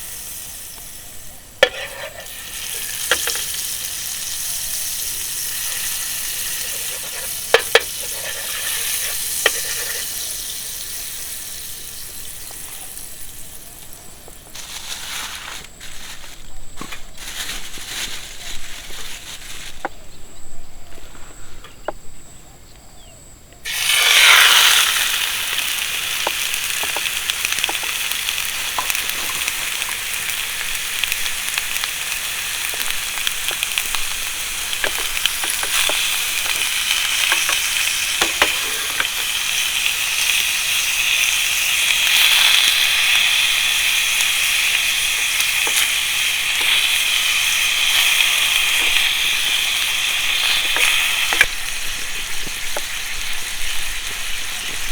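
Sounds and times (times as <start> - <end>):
food frying in hot oil: 0.0 - 15.4, 23.7 - 54.9
oil crackling and popping: 0.0 - 20.0, 23.7 - 54.9.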